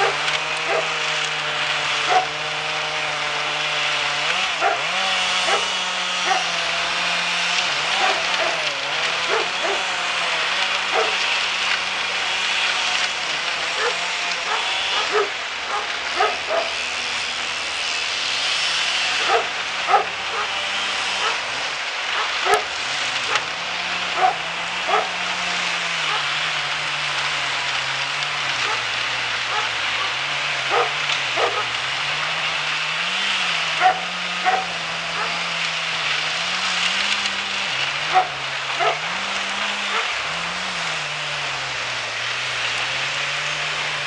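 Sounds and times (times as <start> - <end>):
wood chipper engine running: 0.0 - 44.0.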